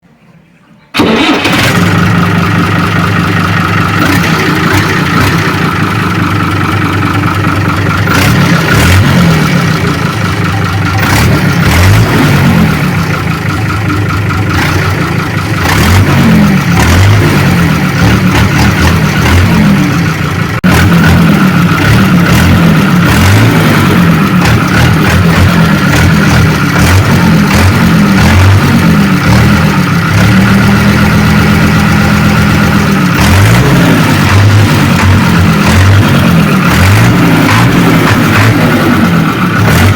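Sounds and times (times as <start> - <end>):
tractor diesel engine revving: 1.0 - 39.9.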